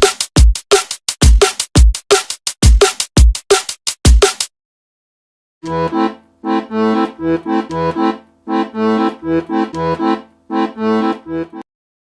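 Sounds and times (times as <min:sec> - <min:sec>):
bouncy tune with bass notes: 0:00.0 - 0:04.5, 0:05.6 - 0:11.7.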